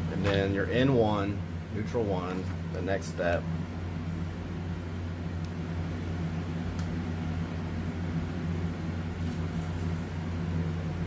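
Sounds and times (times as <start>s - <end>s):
shop machinery humming: 0.0s - 11.0s.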